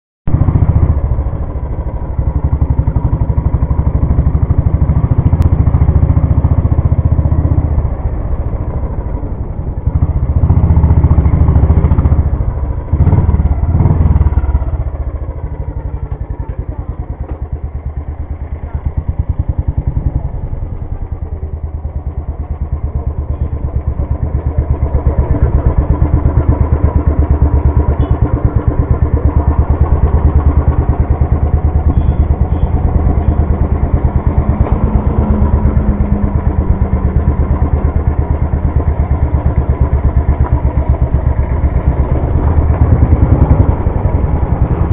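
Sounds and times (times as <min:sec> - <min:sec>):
motorcycle engine riding: 0:00.3 - 0:44.9.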